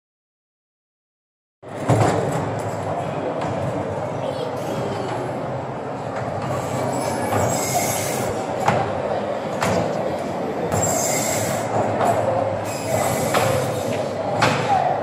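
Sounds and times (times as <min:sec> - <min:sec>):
ride train rolling on track: 0:01.7 - 0:14.5.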